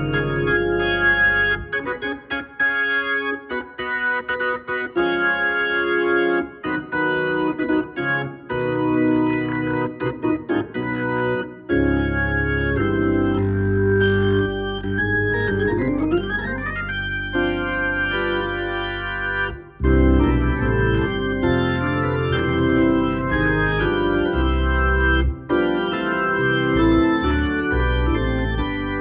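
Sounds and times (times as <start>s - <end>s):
deep organ bass: 0.0s - 29.0s
organ chords: 0.0s - 29.0s.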